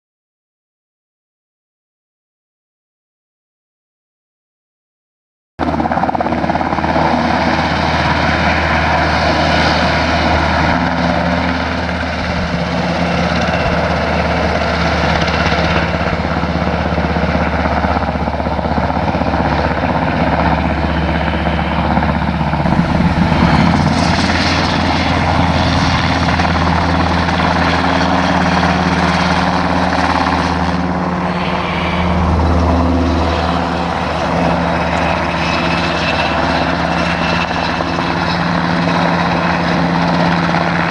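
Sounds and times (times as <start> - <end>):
helicopters flying low overhead: 5.6 - 40.9.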